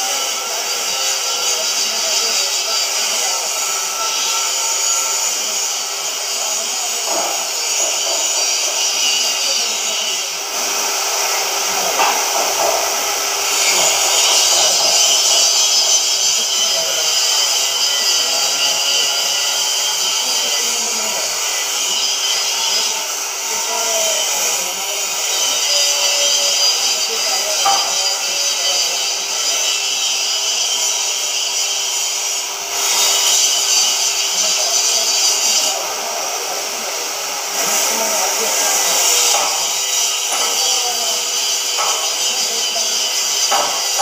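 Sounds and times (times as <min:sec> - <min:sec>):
cutting torch hissing: 0:00.0 - 0:44.0.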